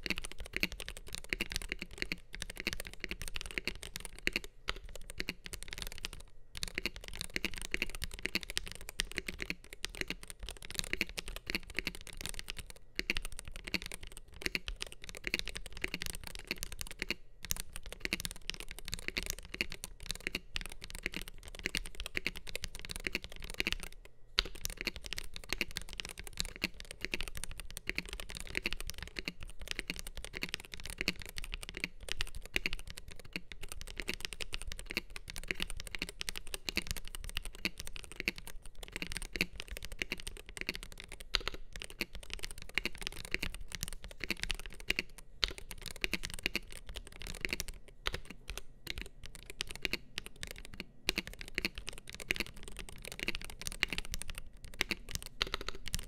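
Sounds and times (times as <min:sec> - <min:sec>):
keyboard keystroke clacks: 0:00.0 - 0:56.0.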